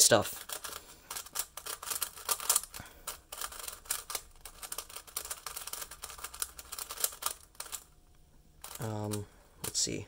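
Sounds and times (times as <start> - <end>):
puzzle cube plastic clicks: 0.3 - 7.9, 8.6 - 9.8.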